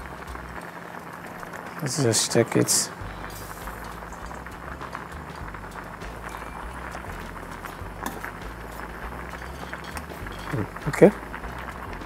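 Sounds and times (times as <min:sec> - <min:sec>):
water bubbling in a pot: 0:00.0 - 0:12.0.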